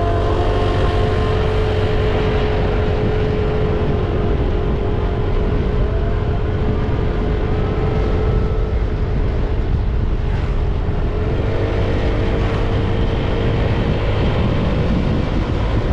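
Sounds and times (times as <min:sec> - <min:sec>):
road noise: 0:00.0 - 0:15.9
wind rush: 0:00.0 - 0:15.9.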